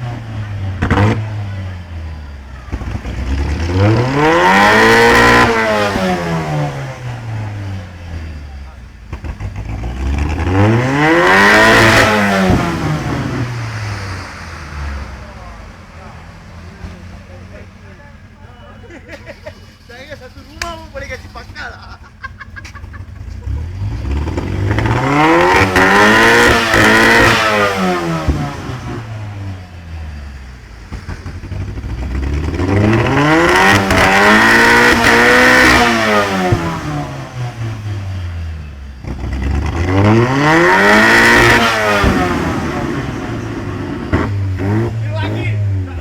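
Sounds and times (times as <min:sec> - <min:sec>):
car engine revving: 0:00.0 - 0:46.0
exhaust cracks: 0:00.0 - 0:46.0.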